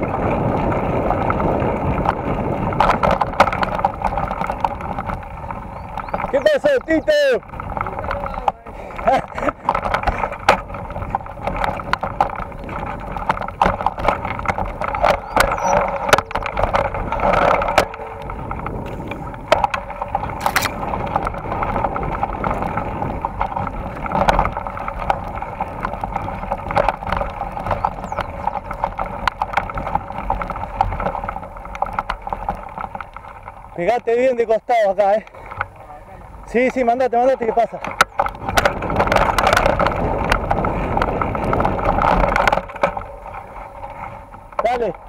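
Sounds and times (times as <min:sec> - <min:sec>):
bike rattles and knocks: 0:00.0 - 0:45.0
steady rushing noise: 0:00.0 - 0:45.0.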